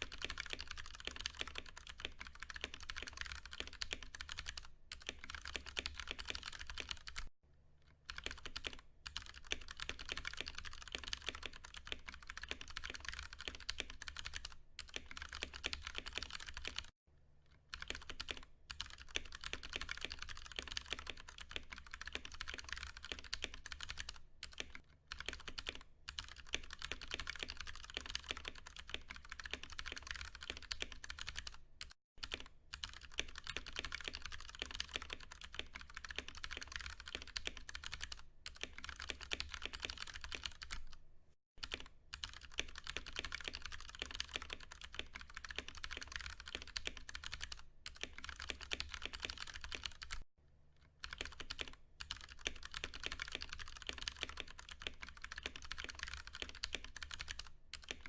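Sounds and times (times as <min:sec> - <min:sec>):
fast typing on mechanical keyboard: 0:00.0 - 0:07.3, 0:08.1 - 0:16.9, 0:17.7 - 0:41.0, 0:41.6 - 0:50.3, 0:51.0 - 0:58.0.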